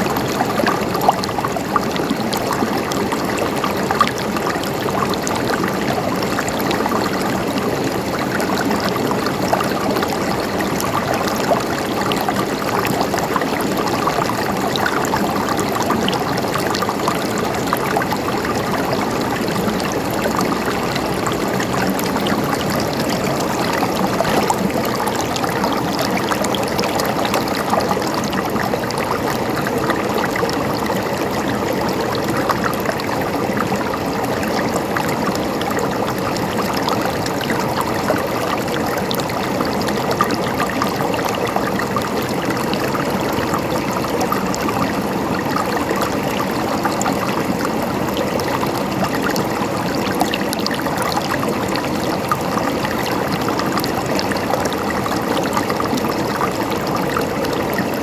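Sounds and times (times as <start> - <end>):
stream gurgling over rocks: 0.0 - 58.0.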